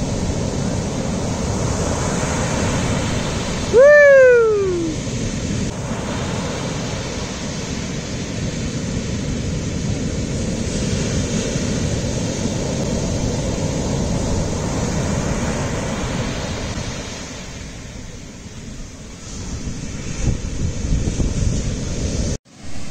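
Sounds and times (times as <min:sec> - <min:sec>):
waves breaking on beach: 0:00.0 - 0:22.9.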